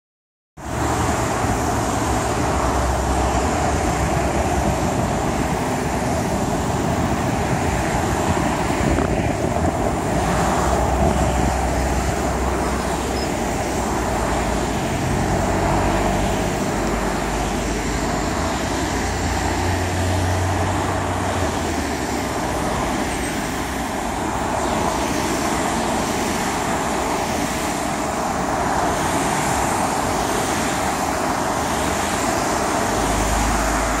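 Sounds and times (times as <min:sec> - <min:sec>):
cars passing on highway: 0:00.6 - 0:34.0.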